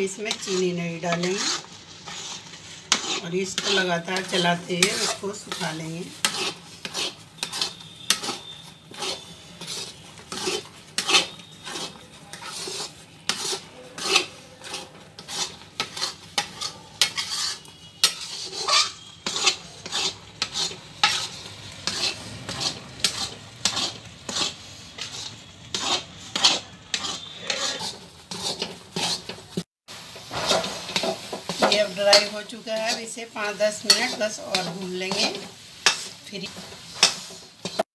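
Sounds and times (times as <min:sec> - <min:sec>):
metal spatula scraping steel pan: 0:00.0 - 0:29.6, 0:30.2 - 0:37.8.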